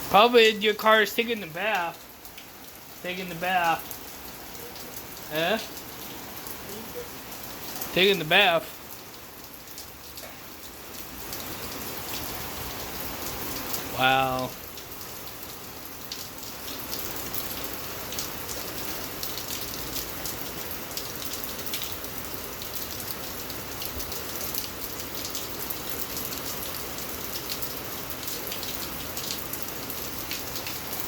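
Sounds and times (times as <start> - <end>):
heavy rain falling: 0.0 - 31.0
raindrops clicking nearby: 0.0 - 31.0.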